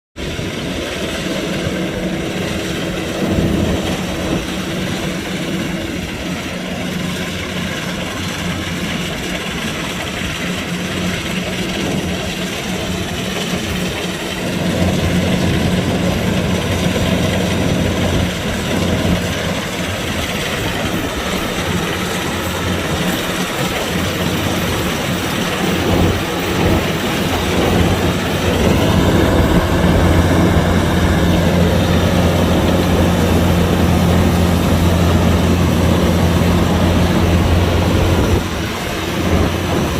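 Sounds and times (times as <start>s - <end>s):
combine harvester running: 0.2s - 39.9s.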